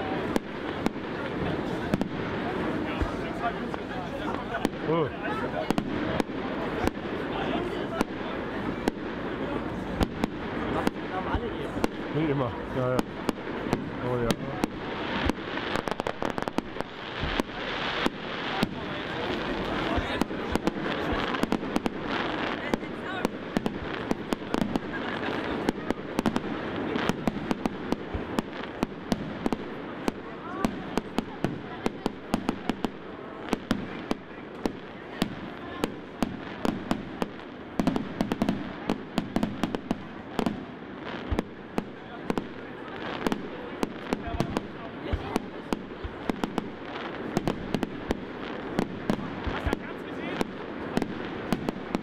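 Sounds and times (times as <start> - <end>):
fireworks bursting with sharp bangs: 0.0 - 52.0.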